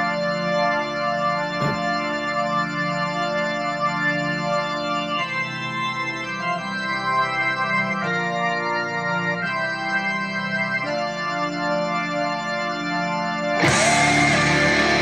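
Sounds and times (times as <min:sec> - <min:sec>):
organ-like keyboard chords: 0:00.0 - 0:15.0.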